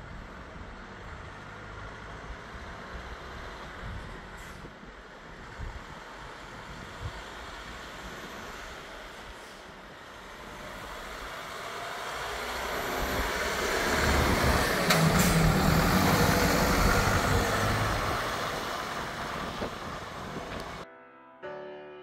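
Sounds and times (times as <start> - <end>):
diesel truck driving past: 0.0 - 20.8.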